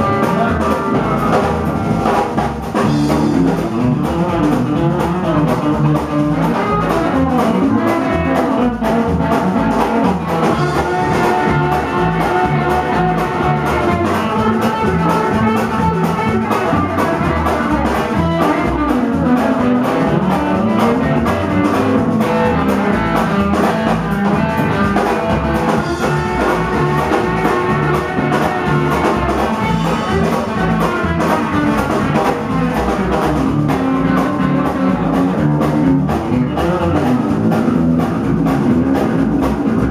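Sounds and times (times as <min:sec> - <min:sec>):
drum kit beat: 0:00.0 - 0:39.9
upright double bass: 0:00.0 - 0:39.9.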